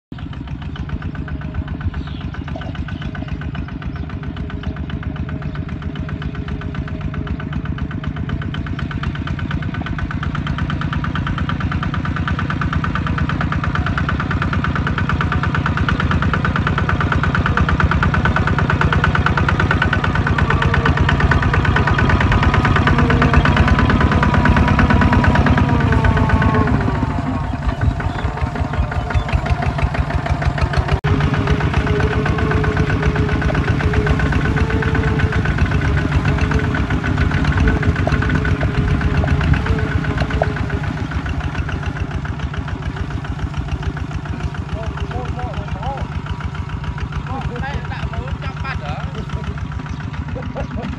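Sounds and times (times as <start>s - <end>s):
diesel tractor engine chugging: 0.1s - 50.9s.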